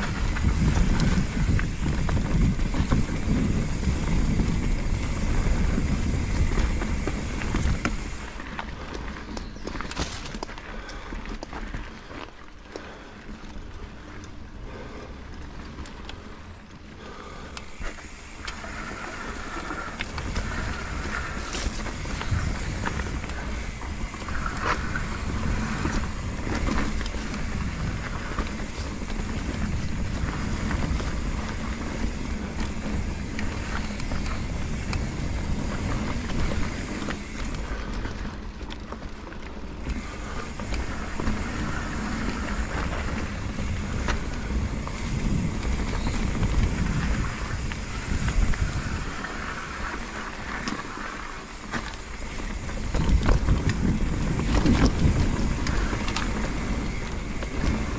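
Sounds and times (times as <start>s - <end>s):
wind buffeting microphone: 0.0s - 10.9s, 17.0s - 38.8s, 39.8s - 57.9s
bike rattling over rough ground: 0.0s - 57.9s.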